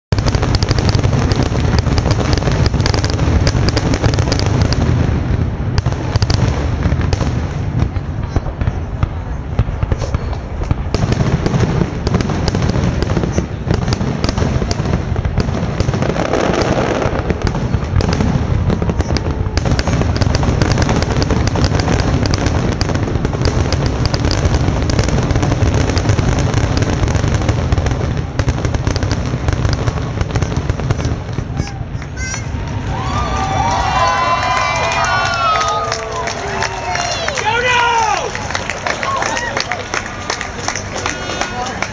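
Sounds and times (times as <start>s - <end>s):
fireworks bangs and crackles: 0.1s - 41.9s.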